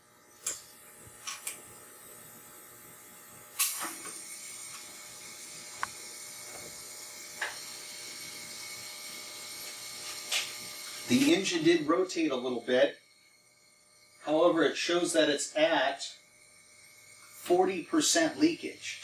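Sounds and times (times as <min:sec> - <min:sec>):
compressed air hissing: 0:03.6 - 0:19.0.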